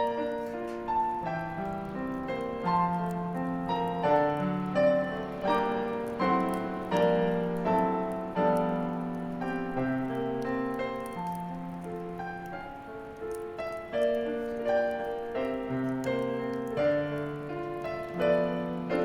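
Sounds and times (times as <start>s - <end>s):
bonfire crackling: 0.0s - 19.0s
solo piano christmas song: 0.0s - 19.0s.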